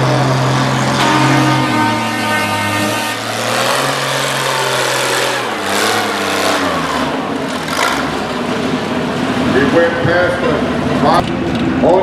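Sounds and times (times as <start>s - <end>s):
tractor engine running hard: 0.0s - 12.0s.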